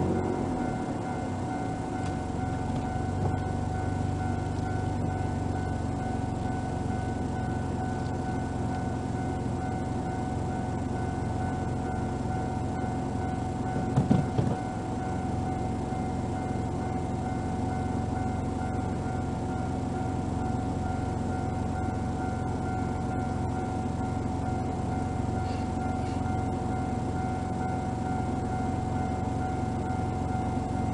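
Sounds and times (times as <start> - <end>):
car engine idling: 0.0 - 30.9
level crossing alarm ringing: 0.0 - 30.9.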